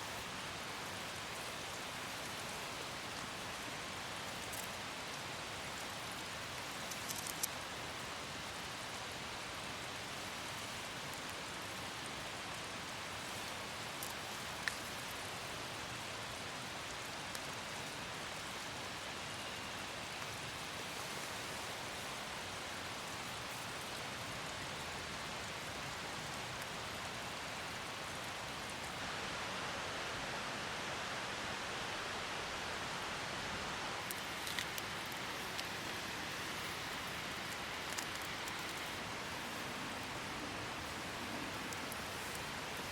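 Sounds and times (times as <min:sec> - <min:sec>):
light rain falling: 0:00.0 - 0:42.9.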